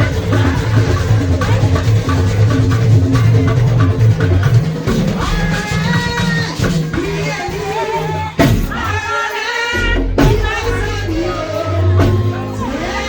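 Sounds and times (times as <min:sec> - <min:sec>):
band with drums and bass guitar: 0:00.0 - 0:13.0
people singing: 0:00.0 - 0:13.0.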